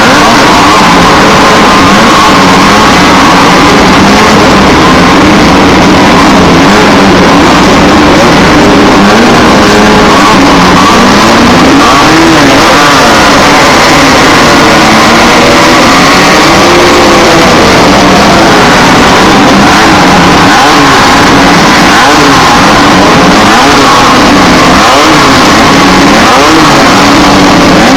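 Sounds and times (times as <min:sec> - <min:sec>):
race car engines revving: 0:00.0 - 0:27.9.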